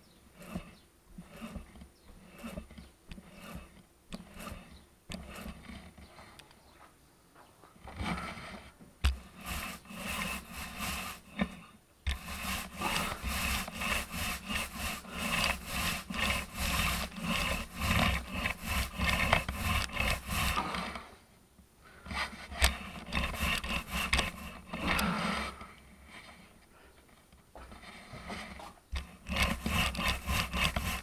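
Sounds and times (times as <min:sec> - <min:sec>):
paint roller rubbing on ceiling: 0:00.0 - 0:06.3, 0:08.0 - 0:21.2, 0:22.0 - 0:26.3, 0:27.7 - 0:31.0.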